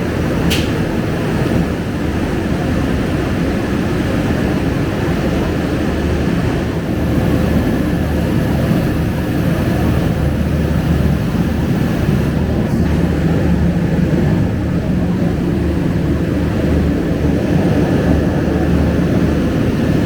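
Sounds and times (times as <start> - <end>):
air conditioning hum: 0.0 - 20.0
bus diesel engine idling: 0.0 - 20.0.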